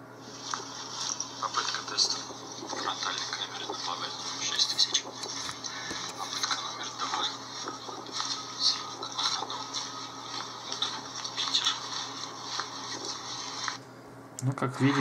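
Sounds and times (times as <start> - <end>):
thin hissy phone speaker playback: 0.3 - 13.8.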